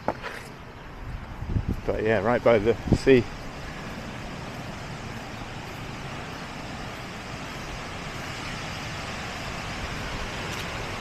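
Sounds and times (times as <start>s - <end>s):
ocean surf breaking: 0.0s - 11.0s
wind buffeting microphone: 0.6s - 11.0s.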